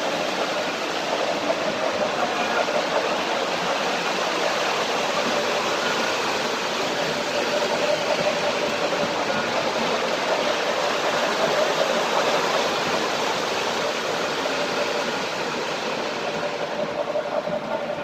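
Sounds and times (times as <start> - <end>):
model train wheels on rails: 0.0 - 18.0.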